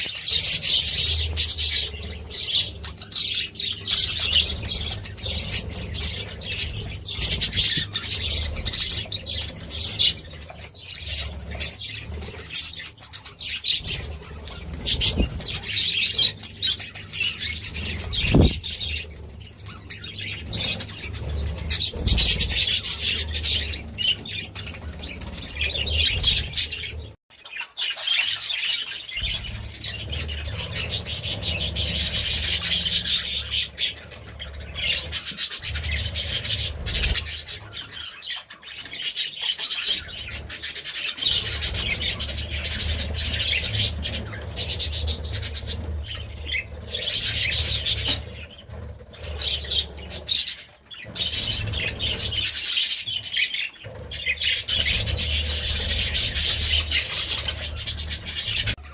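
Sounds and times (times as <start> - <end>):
budgerigars chattering and chirping: 0.0 - 58.9.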